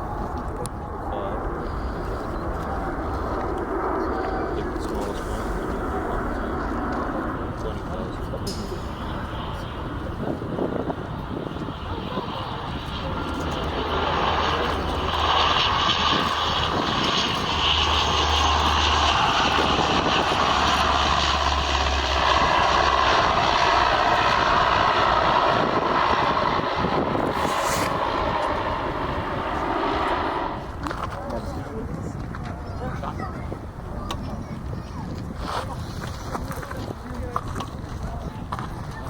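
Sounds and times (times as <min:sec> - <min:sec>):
airliner engines passing: 0:00.0 - 0:39.0.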